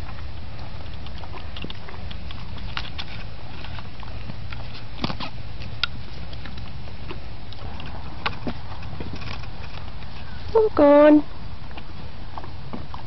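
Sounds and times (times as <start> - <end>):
horse crunching food: 0.0 - 13.0
steady low rumble: 0.0 - 13.0.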